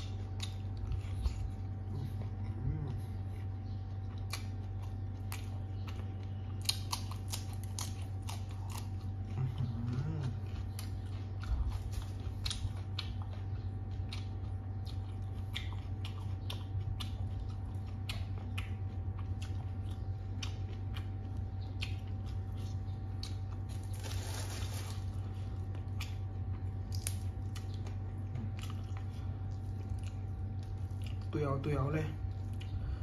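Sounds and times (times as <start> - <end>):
person chewing crunchy food: 0.0 - 33.0
steady low hum: 0.0 - 33.0.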